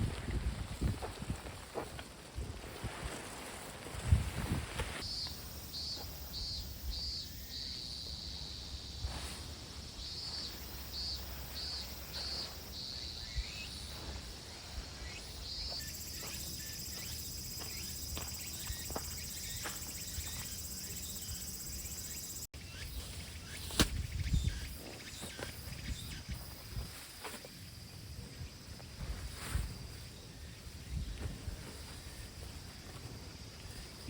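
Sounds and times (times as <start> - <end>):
insects chirping: 0.0 - 34.0
insect trill: 5.0 - 34.0.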